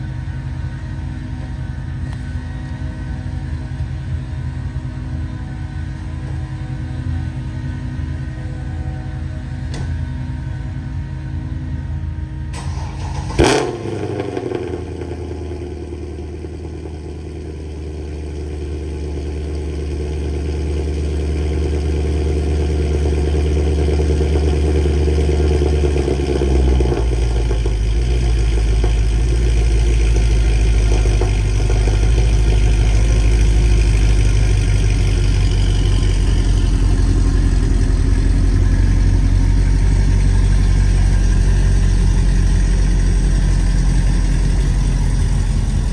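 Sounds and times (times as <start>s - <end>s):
car engine cold start and idle: 0.0s - 8.6s, 12.4s - 45.9s.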